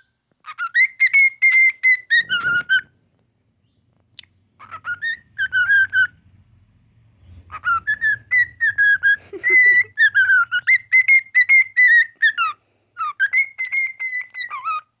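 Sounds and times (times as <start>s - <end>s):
cockatiel whistling: 0.0s - 3.0s, 4.2s - 6.2s, 7.4s - 14.9s.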